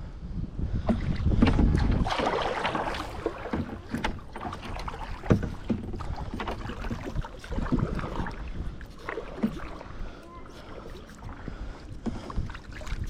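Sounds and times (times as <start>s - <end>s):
wind rumbling on microphone: 0.0s - 13.0s
paddle knocking against hull: 0.8s - 13.0s
paddle splashing: 0.9s - 13.0s.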